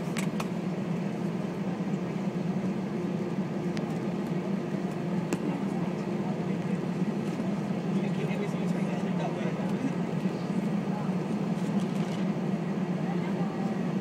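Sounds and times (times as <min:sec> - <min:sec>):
low hum of idling jet engines: 0:00.0 - 0:14.0.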